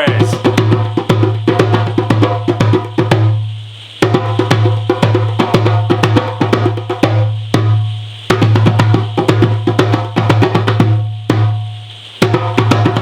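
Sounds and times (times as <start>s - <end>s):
fast drumming: 0.0s - 13.0s.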